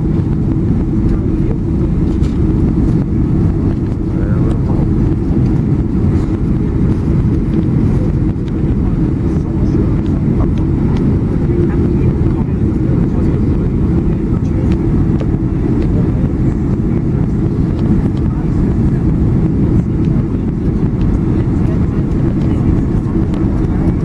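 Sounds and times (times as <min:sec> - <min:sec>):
airplane cabin rumble: 0:00.0 - 0:24.0
constant low hum: 0:00.0 - 0:24.0.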